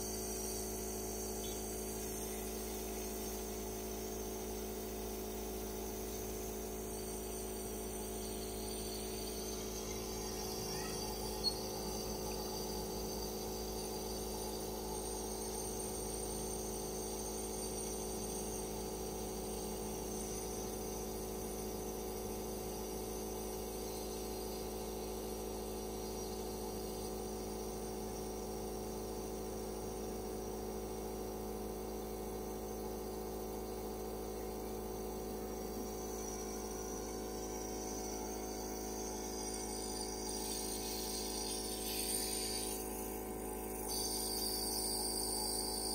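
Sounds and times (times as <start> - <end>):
nebulizer buzzing hum: 0.0 - 45.9.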